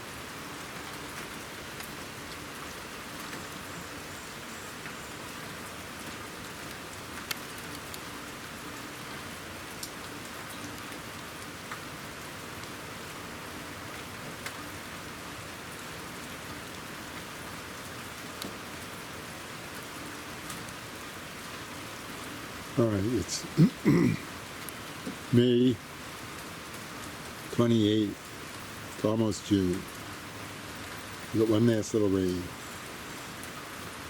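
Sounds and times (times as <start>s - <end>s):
light rain falling: 0.0s - 34.0s.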